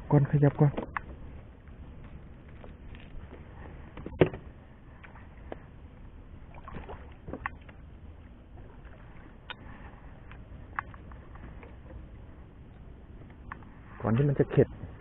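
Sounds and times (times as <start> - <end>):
wind rumbling on microphone: 0.0 - 15.0
water lapping: 0.9 - 15.0.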